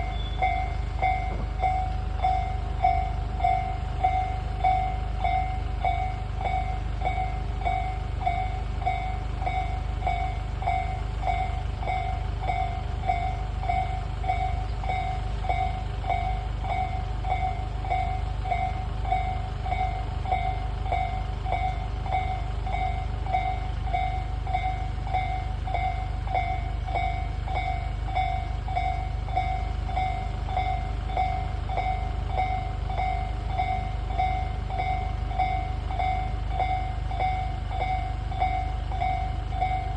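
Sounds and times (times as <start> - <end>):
level crossing bell dinging: 0.0 - 39.9.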